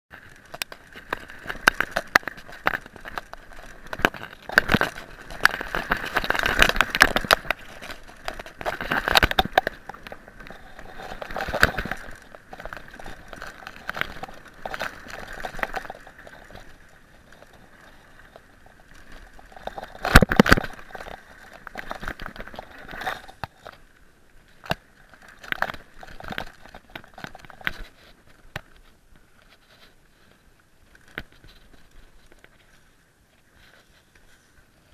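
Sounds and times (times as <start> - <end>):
bike rattling and knocking: 0.1 - 23.8, 24.6 - 29.9
bike tyres crunching over gravel: 0.1 - 34.9.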